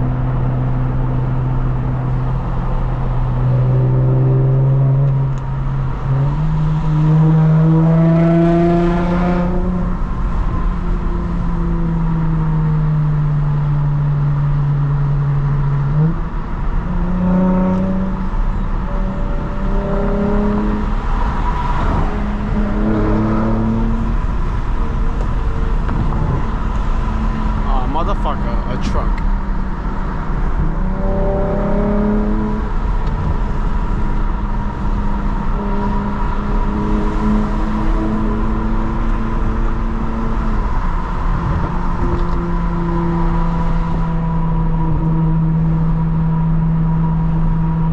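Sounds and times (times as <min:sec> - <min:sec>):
car engine through loud exhaust: 0:00.0 - 0:47.9.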